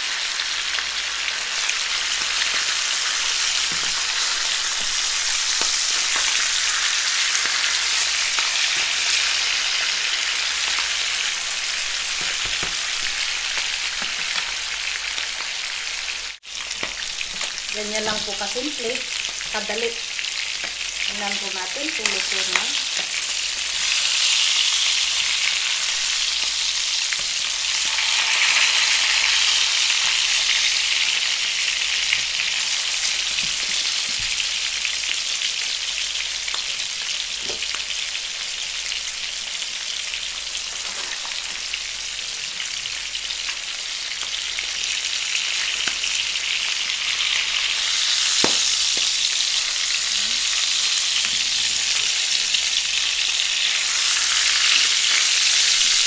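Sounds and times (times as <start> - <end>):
fish sizzling in frying pan: 0.0 - 56.0.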